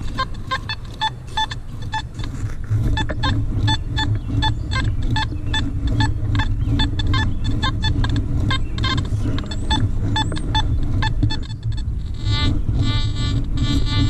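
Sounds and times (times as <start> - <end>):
low rumble: 0.0 - 14.0
metal detector beeps: 0.0 - 14.0.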